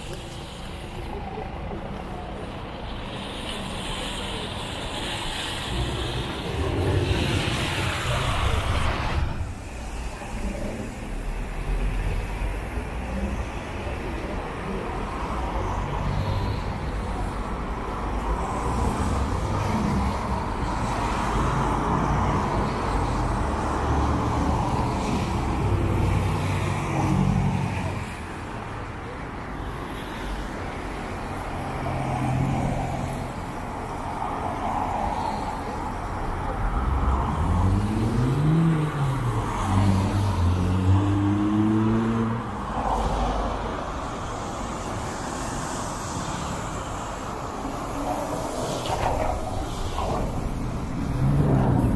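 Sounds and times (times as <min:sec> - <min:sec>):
bus engines running: 0:00.0 - 0:51.9
vehicles passing: 0:00.0 - 0:51.9.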